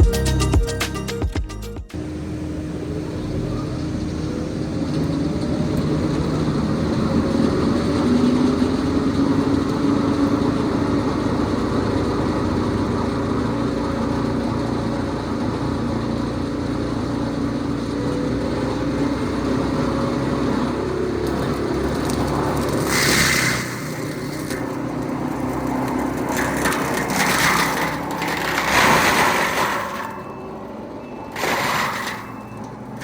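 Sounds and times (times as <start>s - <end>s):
heavy engine running: 0.0s - 33.0s.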